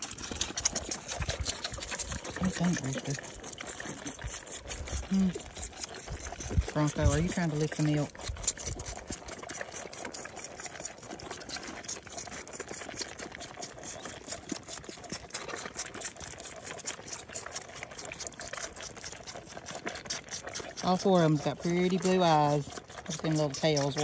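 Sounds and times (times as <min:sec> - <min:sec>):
goat kids sucking bottles: 0:00.0 - 0:24.0.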